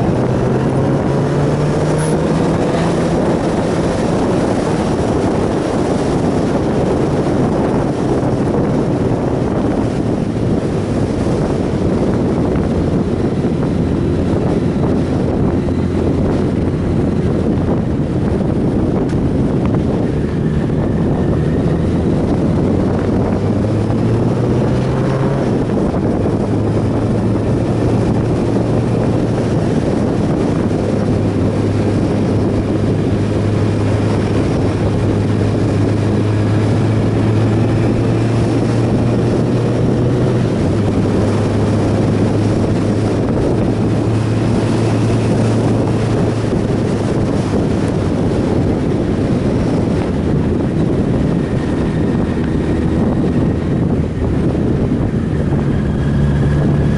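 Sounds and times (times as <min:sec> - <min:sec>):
motorcycle engine: 0:00.0 - 0:56.9
wind noise on microphone: 0:00.0 - 0:56.9.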